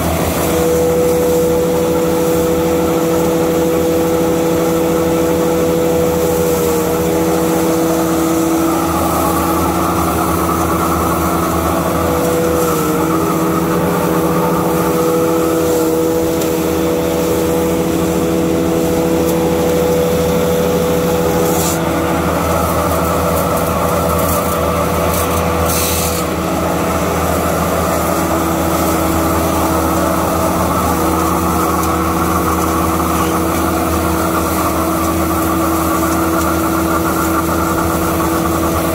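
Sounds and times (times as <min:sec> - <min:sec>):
machine drone with whine: 0:00.0 - 0:38.9.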